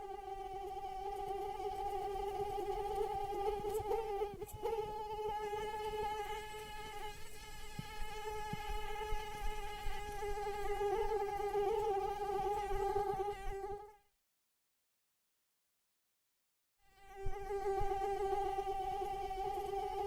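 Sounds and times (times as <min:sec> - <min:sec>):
mosquito wingbeat whine: 0:00.0 - 0:13.8, 0:16.9 - 0:20.0.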